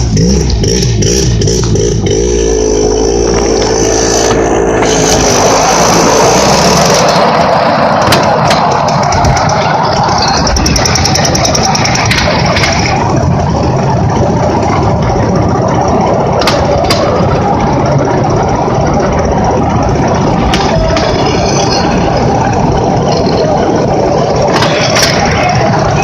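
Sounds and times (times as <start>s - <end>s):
motor engine running: 0.0s - 26.0s.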